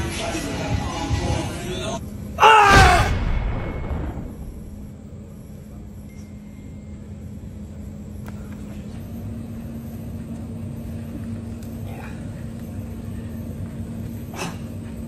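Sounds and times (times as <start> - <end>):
faint continuous hum: 0.0 - 15.0
low room rumble: 0.0 - 15.0.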